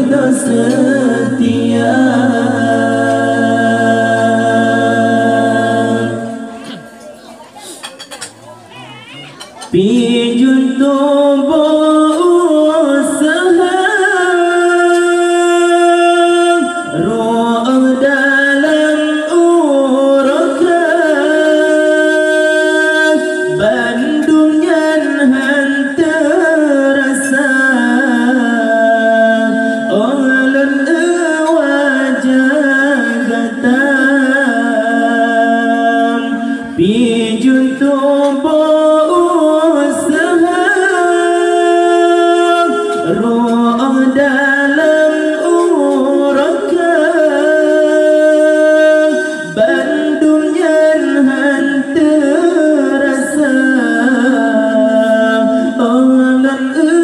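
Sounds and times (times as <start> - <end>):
man singing unaccompanied: 0.0 - 6.9, 9.7 - 57.0.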